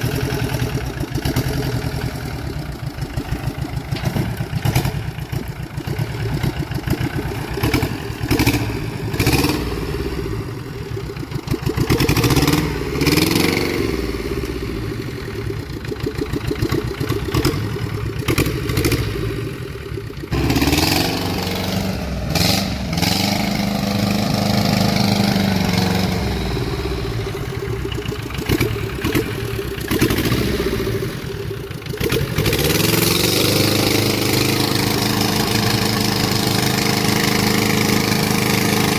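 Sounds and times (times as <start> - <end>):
small tractor engine revving: 0.0 - 38.9.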